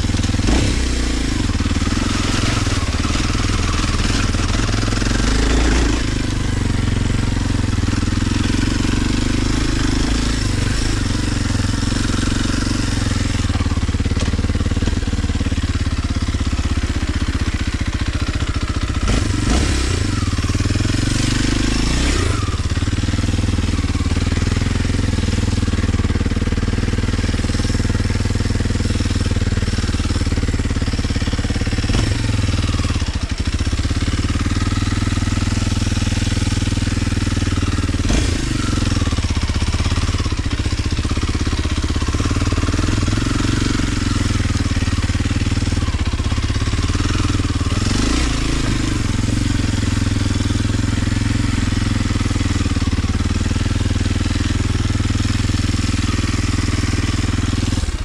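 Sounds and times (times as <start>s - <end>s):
dirt bike engine idling: 0.0s - 58.0s.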